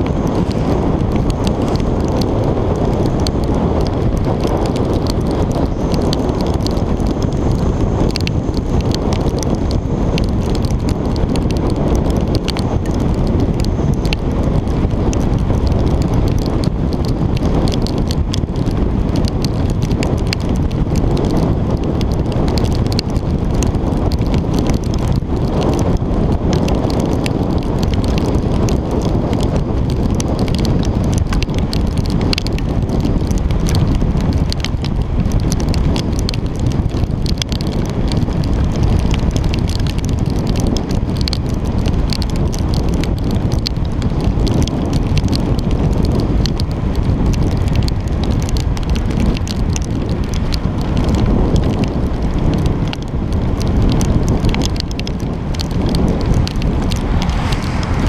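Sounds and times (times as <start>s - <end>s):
raindrops ticking on camera: 0.0s - 58.0s
wind noise on microphone: 0.0s - 58.0s.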